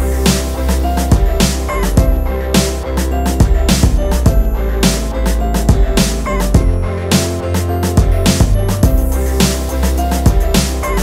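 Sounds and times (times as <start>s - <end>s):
deep bass: 0.0s - 11.0s.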